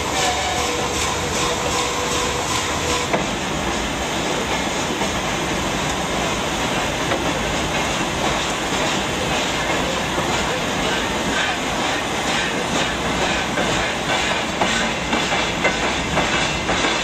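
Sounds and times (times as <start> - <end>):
steam locomotive rushing noise: 0.0 - 17.0.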